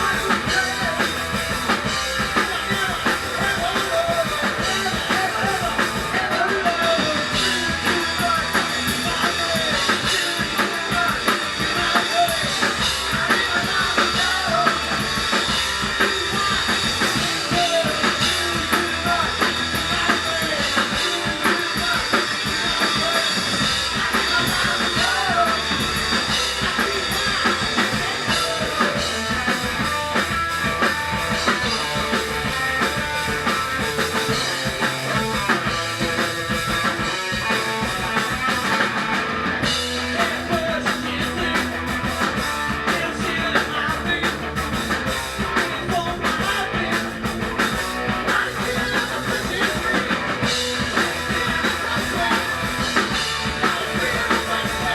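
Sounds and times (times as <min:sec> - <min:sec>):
bass guitar: 0:00.0 - 0:54.9
drum kit beat: 0:00.0 - 0:54.9
electric guitars: 0:00.0 - 0:54.9.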